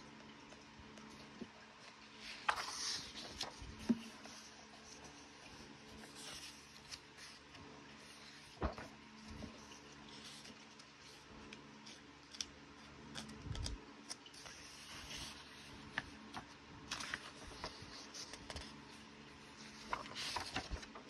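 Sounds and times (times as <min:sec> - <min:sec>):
paper pages rustling: 0:01.0 - 0:21.0
page turning rustle: 0:01.1 - 0:21.0.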